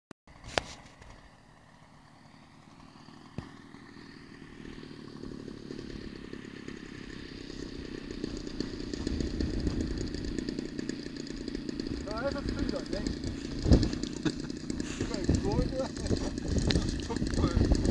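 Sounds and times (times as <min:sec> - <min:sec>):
small engine rattling: 0:00.3 - 0:17.9.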